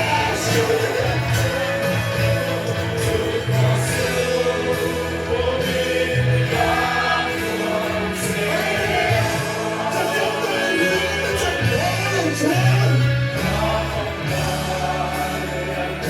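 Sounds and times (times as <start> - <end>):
group singing: 0.0 - 16.0
steady bass line: 0.0 - 16.0.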